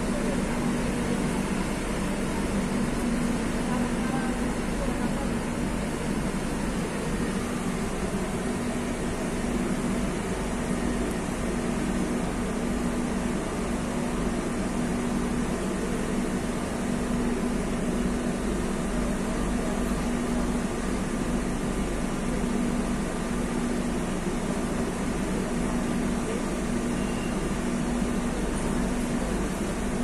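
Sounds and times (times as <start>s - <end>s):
standing train humming: 0.0s - 30.0s.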